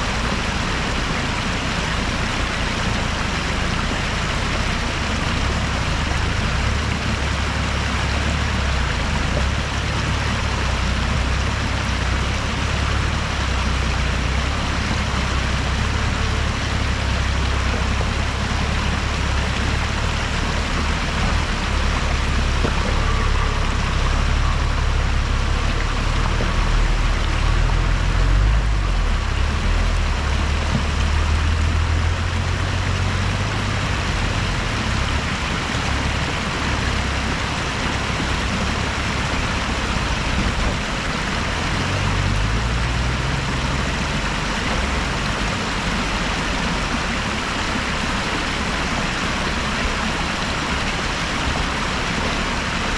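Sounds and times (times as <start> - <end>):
off-road engine rumbling: 0.0 - 52.9.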